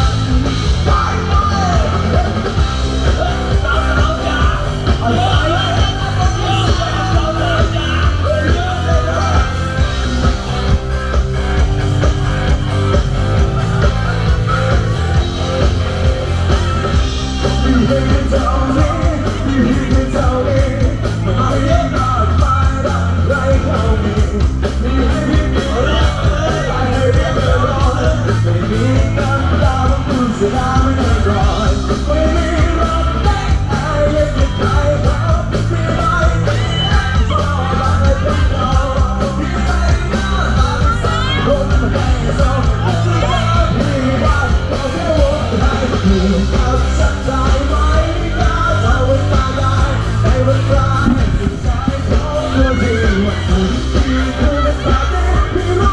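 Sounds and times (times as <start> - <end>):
loud rock music with singer: 0.0 - 55.9.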